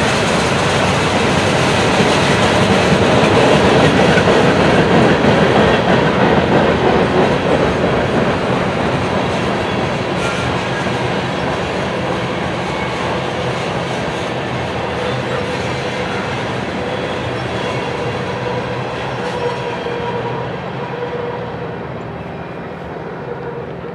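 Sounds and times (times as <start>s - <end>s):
train wheels clattering on rails: 0.0s - 23.9s.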